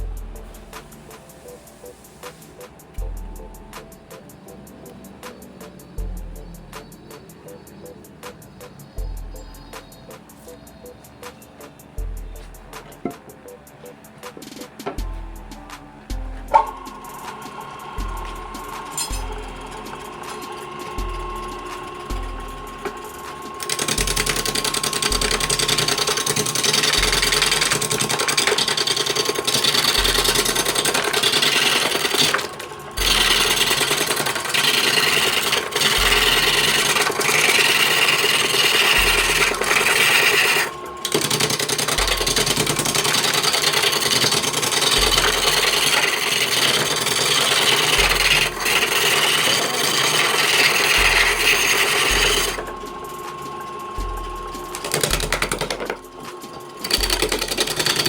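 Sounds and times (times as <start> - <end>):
wood lathe gouge scraping: 0.0 - 58.0.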